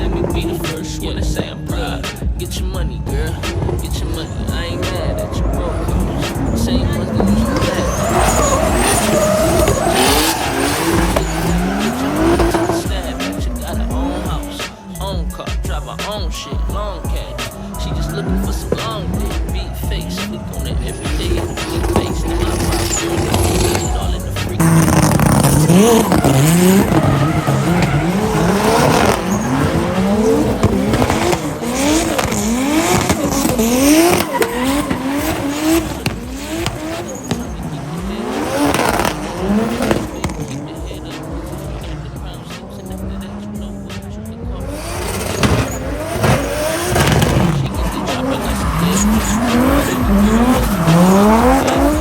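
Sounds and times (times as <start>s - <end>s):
background music: 0.0s - 52.0s
car engine revving: 0.0s - 52.0s
tyres squealing: 0.0s - 52.0s.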